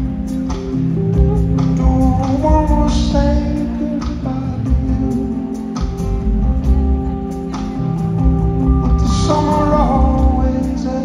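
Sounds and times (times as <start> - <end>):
electric bass: 0.0 - 11.0
gliding melody: 0.0 - 11.0
steady drum beat: 0.0 - 11.0.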